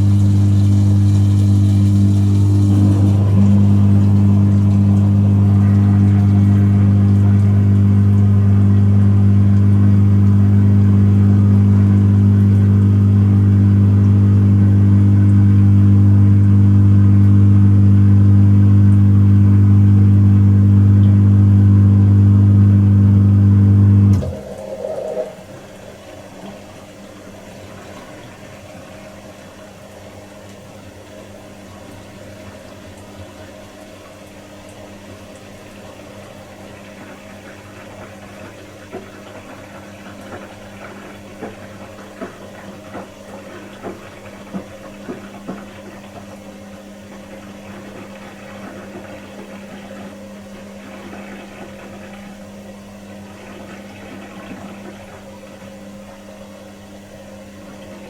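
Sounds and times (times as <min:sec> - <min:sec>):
dishwasher pump motor humming: 0:00.0 - 0:58.0.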